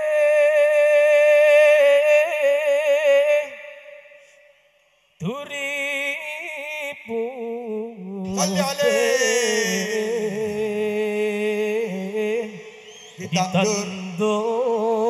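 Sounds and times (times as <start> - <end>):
man singing through microphone: 0.0 - 4.0, 5.2 - 15.0.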